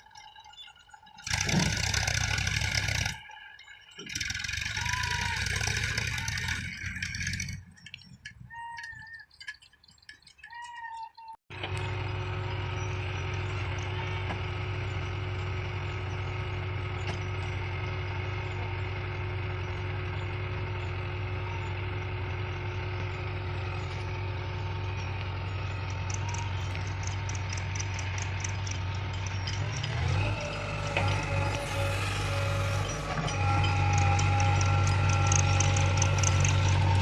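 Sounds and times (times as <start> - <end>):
heavy vehicle engine running: 0.0 - 8.2, 11.5 - 37.0.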